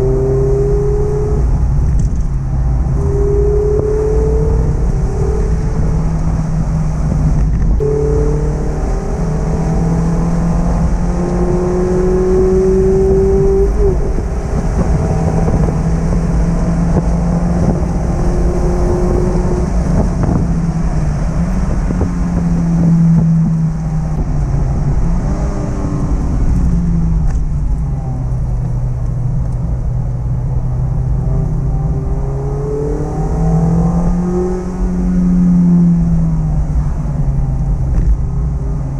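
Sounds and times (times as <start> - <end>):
car engine revving: 0.0 - 38.9
road rumble: 0.0 - 38.9.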